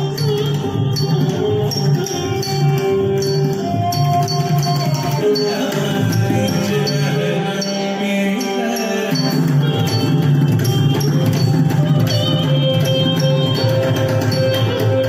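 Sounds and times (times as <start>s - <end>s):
classical dance music: 0.0s - 7.8s, 9.2s - 15.0s
percussion: 0.0s - 15.0s.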